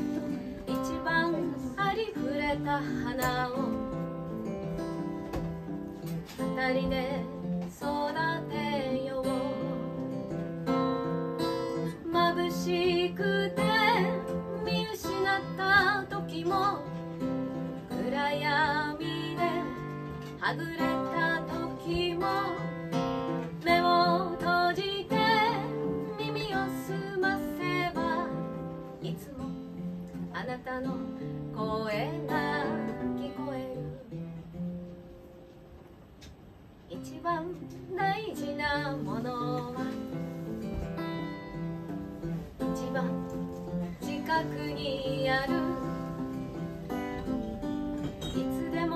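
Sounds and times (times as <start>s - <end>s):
woman singing: 0.0s - 34.2s, 36.9s - 48.9s
acoustic guitar strummed and picked: 0.0s - 48.9s.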